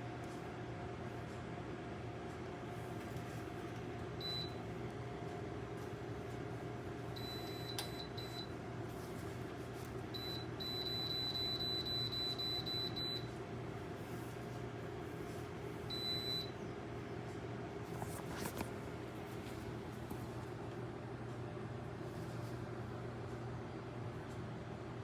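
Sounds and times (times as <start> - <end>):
heater fan humming: 0.0 - 25.0.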